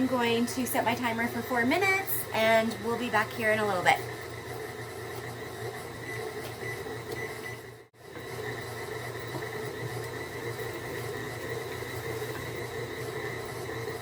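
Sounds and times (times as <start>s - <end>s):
electric stand mixer running: 0.0s - 14.0s.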